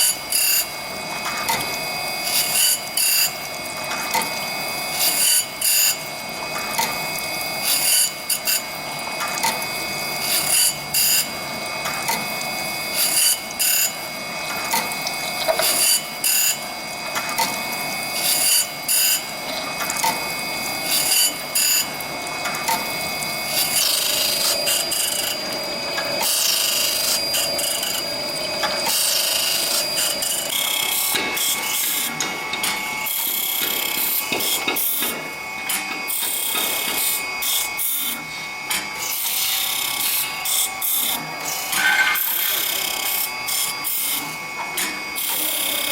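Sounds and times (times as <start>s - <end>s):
machine humming on saw blade: 0.0s - 45.9s.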